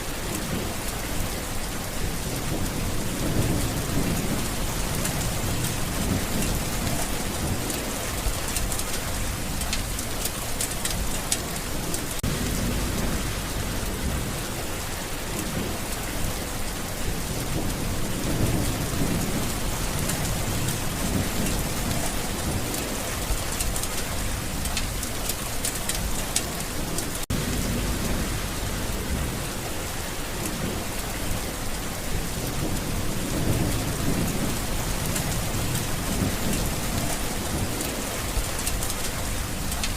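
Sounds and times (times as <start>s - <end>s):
heavy rain pattering: 0.0s - 39.9s
thunder rumbling: 0.0s - 39.9s.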